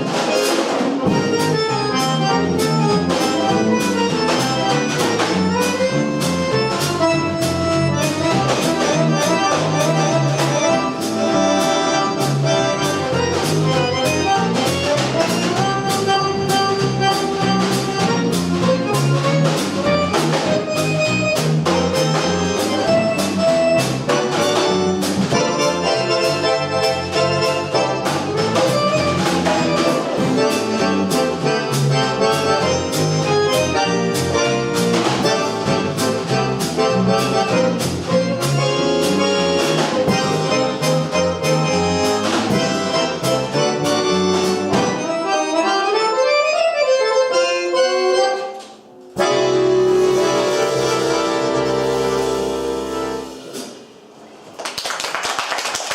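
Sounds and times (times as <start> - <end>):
drum kit: 0.0 - 45.7, 48.7 - 54.2
bass guitar: 0.0 - 48.4, 49.0 - 53.9
accordion: 0.0 - 54.0.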